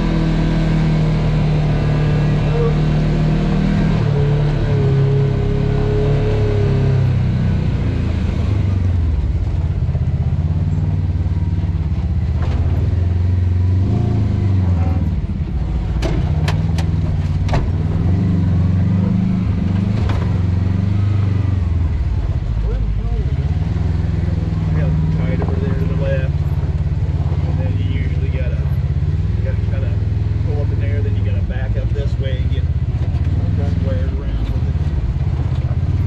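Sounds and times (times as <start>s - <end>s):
off-road vehicle engine running: 0.0s - 36.0s.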